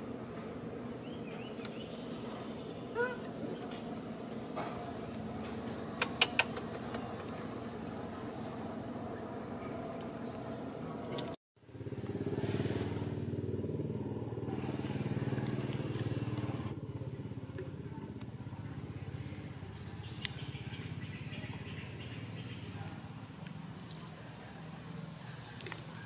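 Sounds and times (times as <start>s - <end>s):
engine running with fast pulse: 3.7s - 26.0s.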